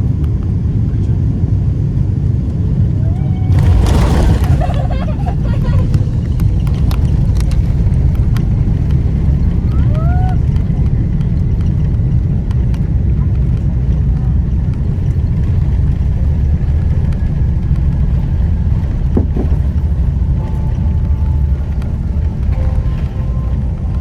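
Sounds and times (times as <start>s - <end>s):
aircraft cabin engine rumble: 0.0s - 24.0s.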